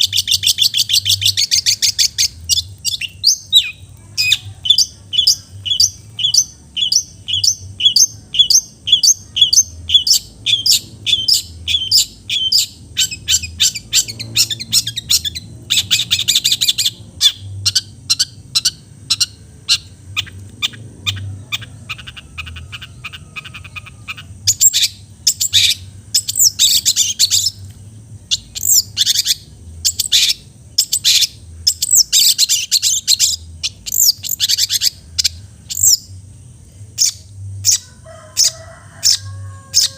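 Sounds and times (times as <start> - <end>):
harsh chattering bird calls: 0.0 - 39.9
shrike singing: 0.0 - 39.9.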